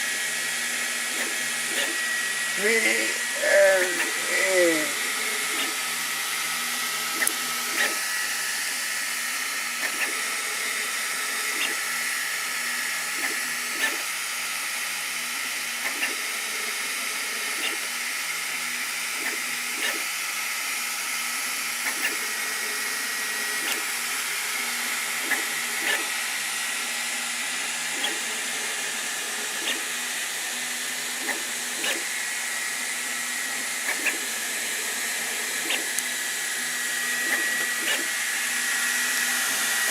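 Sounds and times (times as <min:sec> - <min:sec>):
low motor hum: 0:00.0 - 0:14.1, 0:21.2 - 0:39.9
printer fan hiss with whine: 0:00.0 - 0:39.9.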